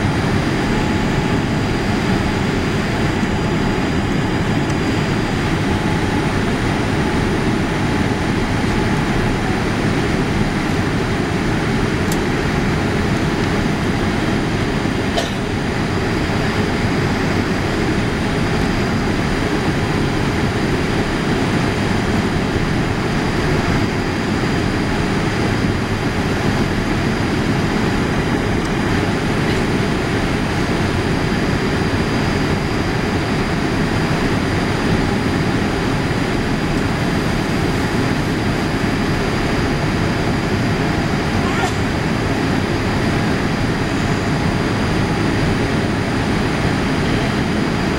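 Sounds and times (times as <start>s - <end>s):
airplane cabin rumble: 0.0s - 47.9s.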